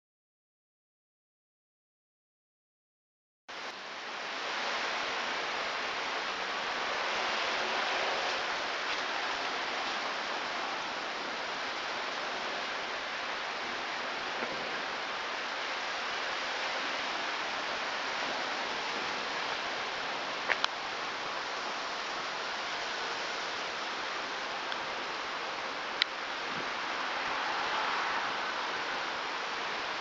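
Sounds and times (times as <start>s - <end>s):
steady rain falling: 3.5s - 30.0s.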